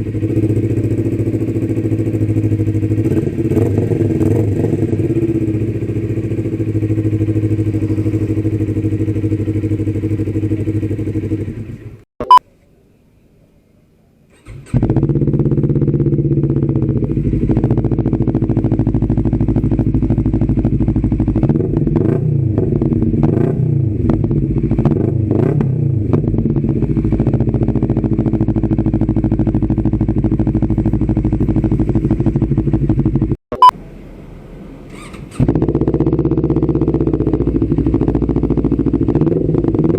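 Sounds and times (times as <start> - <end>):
motorcycle engine revving: 0.0 - 12.0, 14.3 - 39.9.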